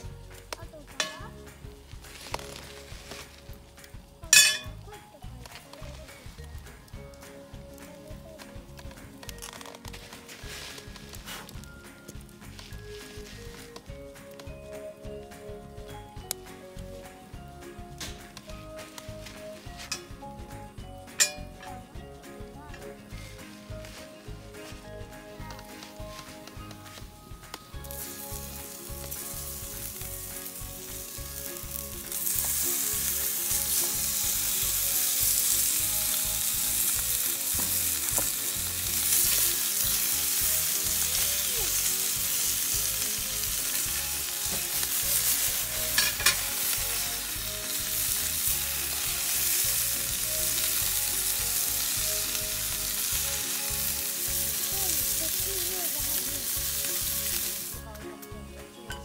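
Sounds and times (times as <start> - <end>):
meat sizzling in frying pan: 0.0 - 5.1, 5.8 - 22.0, 23.2 - 57.8
chopsticks stirring: 0.5 - 6.5, 8.6 - 11.7, 18.2 - 20.4, 21.1 - 59.0.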